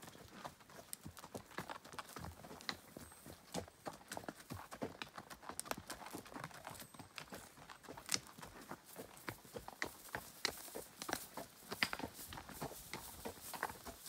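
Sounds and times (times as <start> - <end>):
horse hooves clopping: 0.0 - 14.0.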